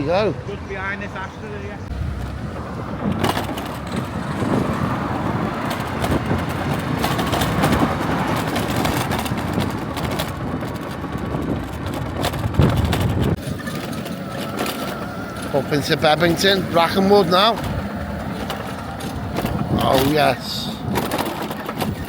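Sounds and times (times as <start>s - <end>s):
vehicle engine and road noise: 0.0s - 22.0s
wind buffeting microphone: 0.0s - 22.0s.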